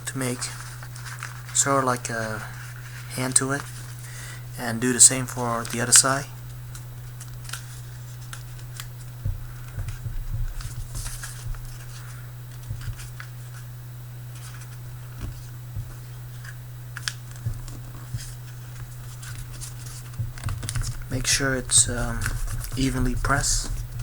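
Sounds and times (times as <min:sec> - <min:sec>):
steady low hum: 0:00.0 - 0:24.0
paper being folded and crinkled: 0:00.3 - 0:04.2, 0:04.8 - 0:24.0.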